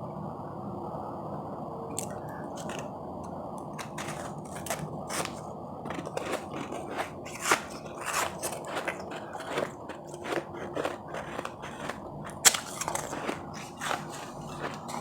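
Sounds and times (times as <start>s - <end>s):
low background hum: 0.0s - 15.0s
ice chips crunching: 2.0s - 2.9s, 3.6s - 15.0s.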